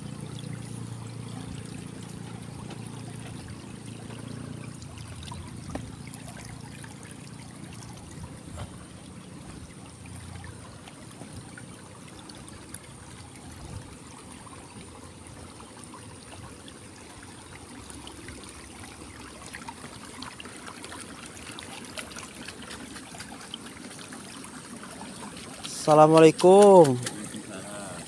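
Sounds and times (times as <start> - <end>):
water trickling in stone ditch: 0.0 - 28.0.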